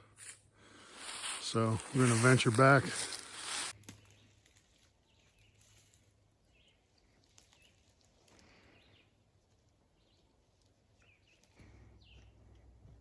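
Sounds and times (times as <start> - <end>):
distant birds chirping: 1.6 - 13.0.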